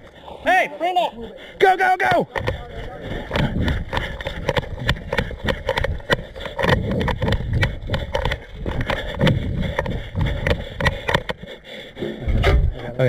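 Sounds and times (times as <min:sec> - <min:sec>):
footsteps and gear rattling: 0:02.2 - 0:12.7.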